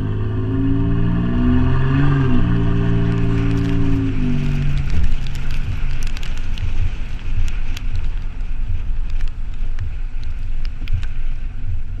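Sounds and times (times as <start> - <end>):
vehicle exhaust idling rumble: 0.0 - 12.0.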